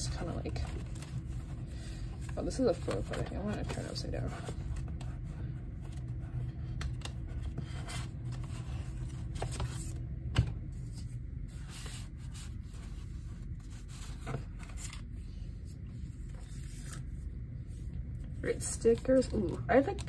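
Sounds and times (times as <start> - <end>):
paper and card rustling: 0.0 - 20.0
steady low hum: 0.0 - 20.0.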